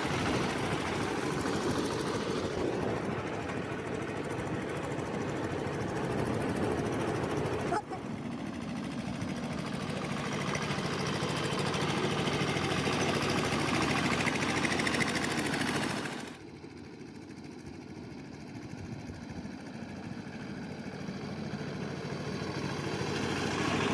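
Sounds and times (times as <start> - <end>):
diesel engine knocking: 0.0 - 23.9.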